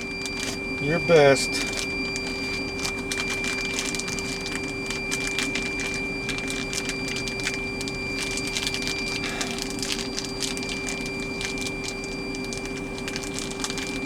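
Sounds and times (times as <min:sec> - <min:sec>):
electrical hum: 0:00.0 - 0:14.0
plastic bag crinkling: 0:00.0 - 0:14.0.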